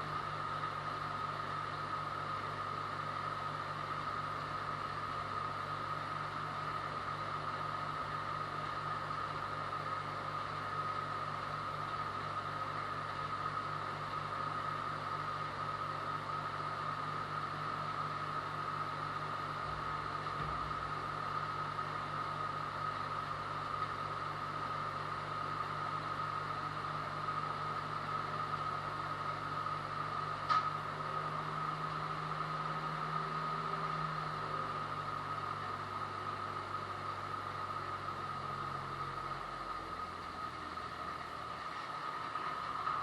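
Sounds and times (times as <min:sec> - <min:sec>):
engine running steadily with whine: 0:00.0 - 0:43.0.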